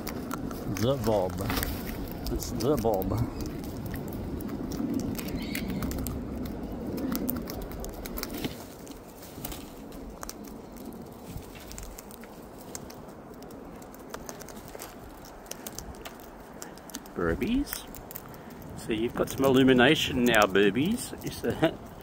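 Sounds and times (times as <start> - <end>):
beaks cracking seed: 0.0 - 22.0.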